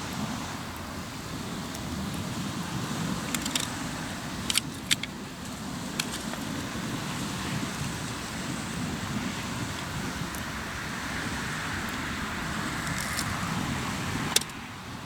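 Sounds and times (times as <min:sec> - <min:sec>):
waves breaking on the shore: 0:00.0 - 0:15.0
campfire crackling and popping: 0:00.1 - 0:14.6.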